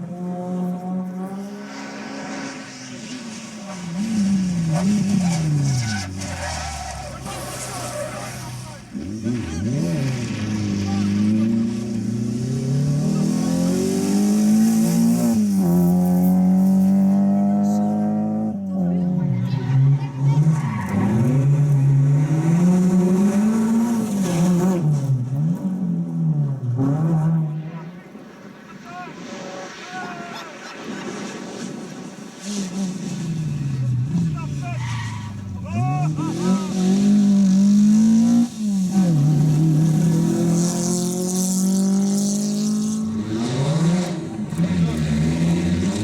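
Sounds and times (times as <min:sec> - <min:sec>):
rally car engine revving: 0:00.0 - 0:29.8, 0:30.7 - 0:46.0.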